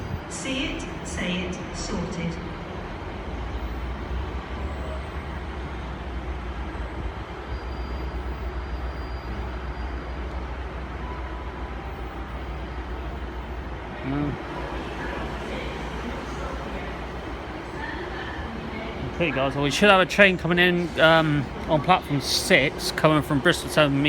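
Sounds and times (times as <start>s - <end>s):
diesel train engines idling: 0.0s - 24.0s.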